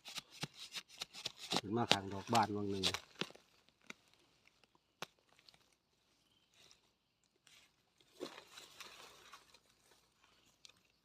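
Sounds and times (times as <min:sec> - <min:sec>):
rustling of forest-floor litter: 0:00.0 - 0:11.0.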